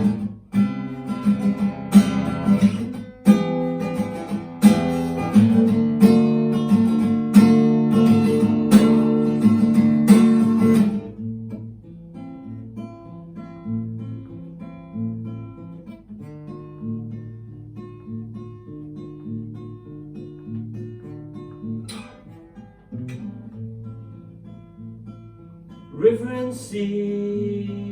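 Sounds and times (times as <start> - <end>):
acoustic guitar strumming and plucking: 0.0 - 27.9.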